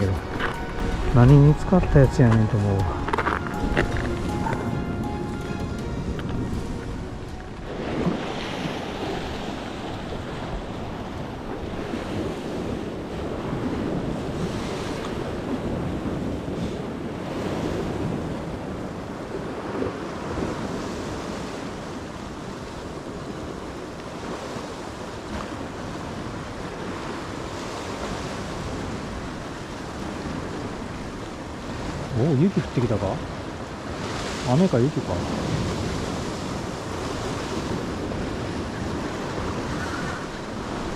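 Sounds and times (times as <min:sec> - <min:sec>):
wind buffeting microphone: 0:00.0 - 0:32.5, 0:35.1 - 0:40.9
waves washing against rocks: 0:00.0 - 0:40.9.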